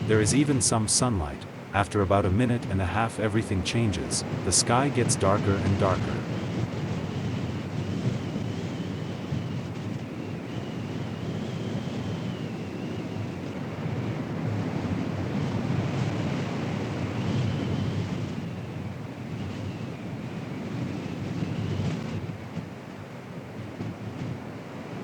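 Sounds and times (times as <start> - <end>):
gusty wind on microphone: 0.0 - 25.0.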